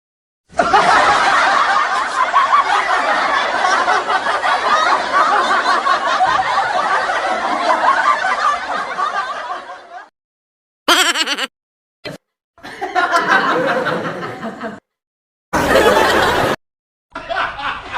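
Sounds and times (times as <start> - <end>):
crowd laughing heartily: 0.5 - 10.1, 10.9 - 11.5, 12.1 - 15.0, 15.6 - 17.9.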